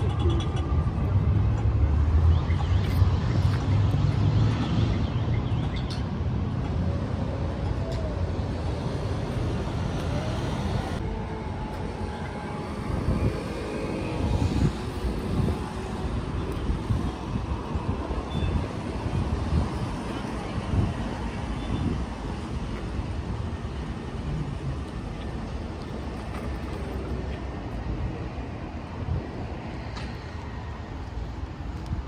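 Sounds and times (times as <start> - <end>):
cars and mopeds driving: 0.0 - 32.0.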